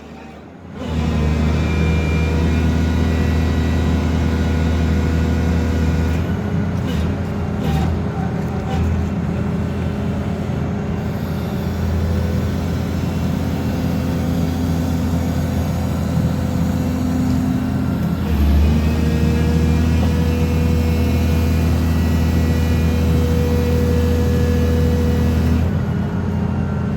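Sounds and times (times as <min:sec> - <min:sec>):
excavator engine: 0:00.0 - 0:26.9
vibratory pile driver hum: 0:00.0 - 0:26.9.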